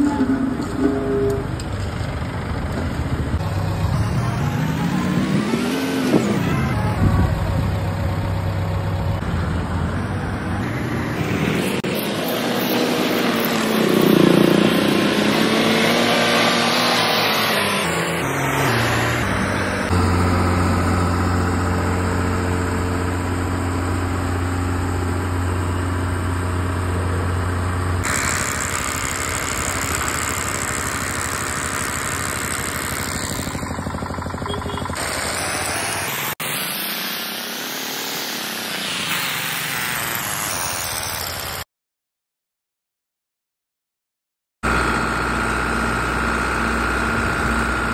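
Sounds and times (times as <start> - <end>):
diesel engine revving: 0.0 - 36.9, 44.6 - 47.9
low engine drone: 0.0 - 40.8, 44.6 - 47.9.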